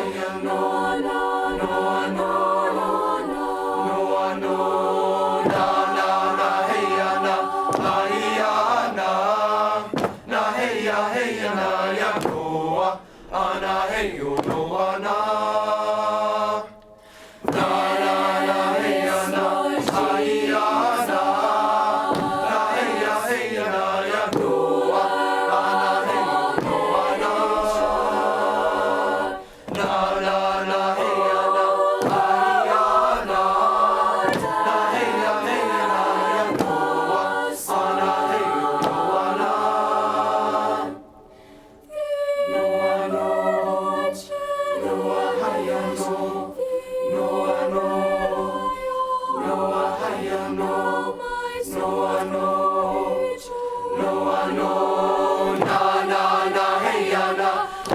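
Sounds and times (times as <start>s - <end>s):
choir singing sustained notes: 0.0s - 57.9s.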